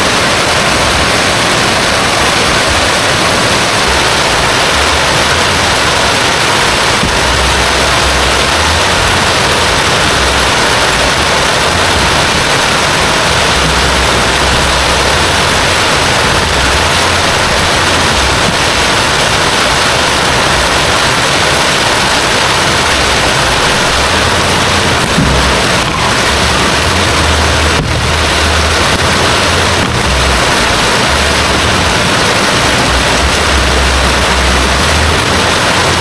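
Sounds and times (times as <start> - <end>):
heavy rain pouring: 0.0 - 36.0
low rumble: 3.6 - 35.9.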